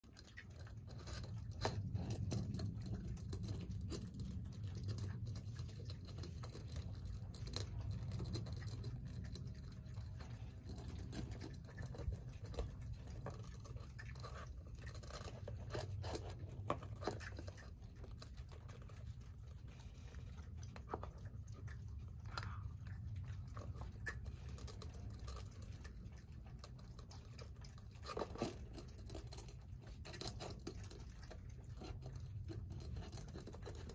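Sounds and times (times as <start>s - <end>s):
low steady rumble: 0.0s - 33.9s.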